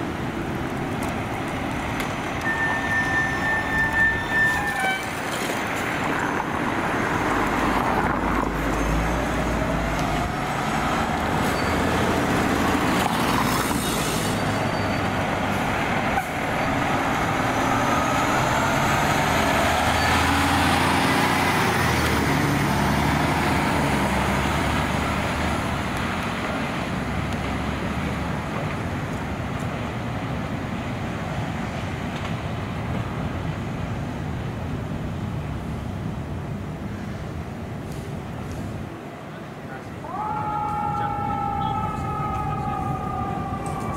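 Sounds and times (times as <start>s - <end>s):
diesel truck engine: 0.0s - 39.0s
road and traffic noise: 0.0s - 43.9s.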